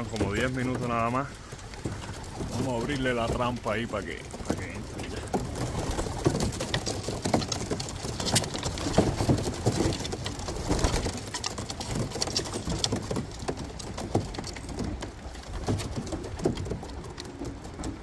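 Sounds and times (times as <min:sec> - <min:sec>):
pigeon wing flaps: 0:00.0 - 0:18.0.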